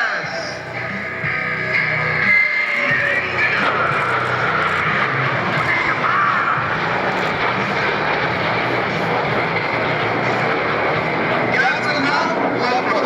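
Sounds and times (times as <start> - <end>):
jet engine rushing and whine: 0.0 - 13.0.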